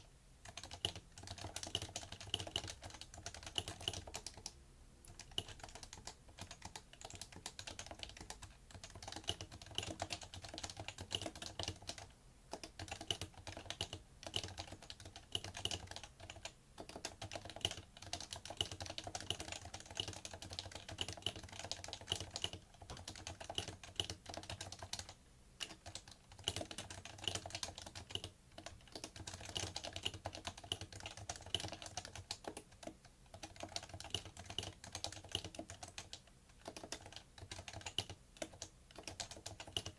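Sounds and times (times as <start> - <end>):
fast keyboard typing: 0.4 - 39.9.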